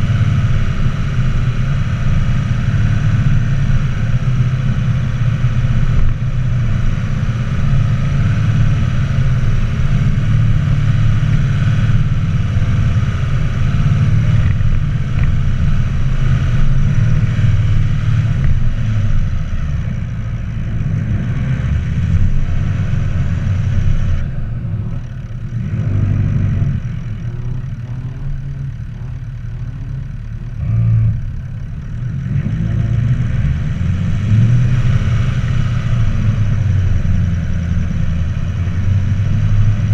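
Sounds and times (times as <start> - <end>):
vehicle engine under load: 0.0 - 39.9.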